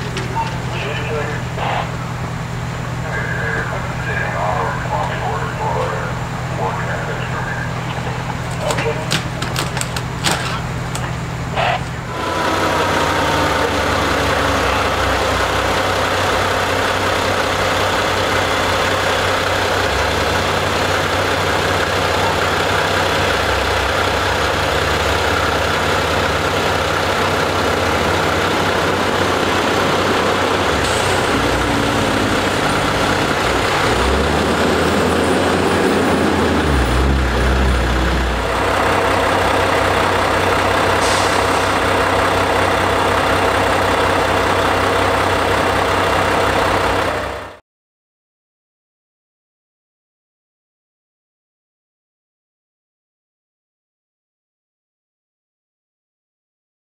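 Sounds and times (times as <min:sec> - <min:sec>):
fire engines idling: 0:00.0 - 0:47.6.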